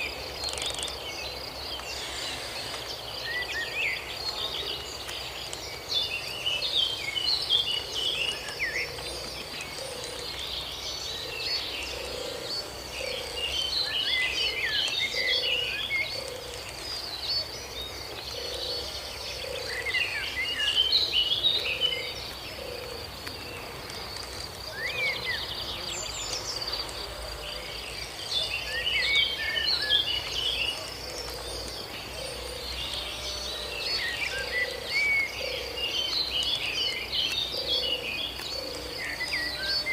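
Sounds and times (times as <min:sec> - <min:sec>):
high insect drone: 0:00.0 - 0:20.7, 0:21.6 - 0:39.9
birds chirping: 0:00.0 - 0:39.9.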